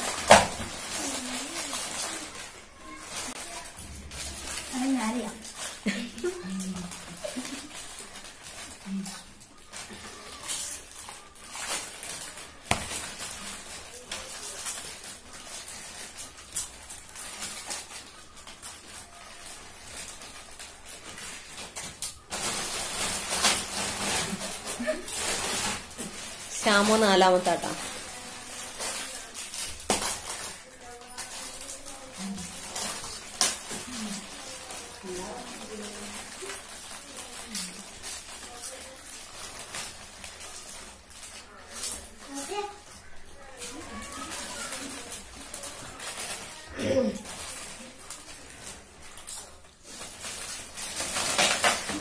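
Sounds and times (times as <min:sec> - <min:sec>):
chip packets crinkling: 0:00.0 - 0:52.0.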